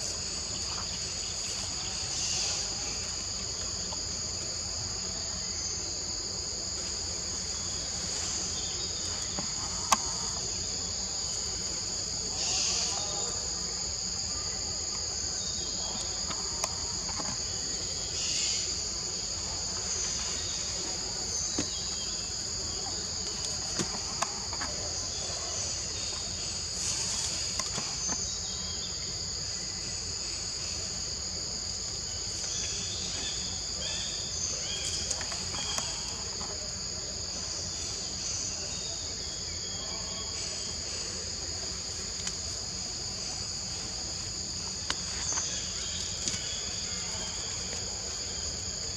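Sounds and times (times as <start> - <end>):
forest insects chorus: 0.0 - 48.9.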